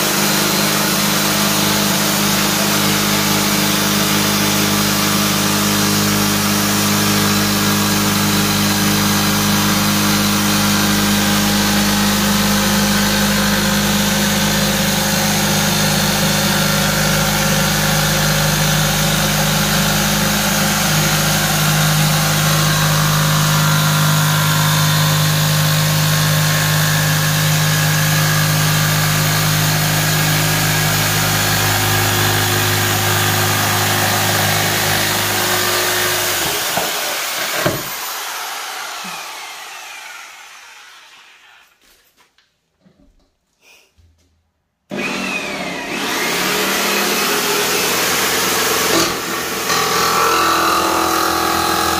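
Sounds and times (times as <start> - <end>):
jigsaw cutting through wood: 0.0 - 41.8, 44.9 - 51.9.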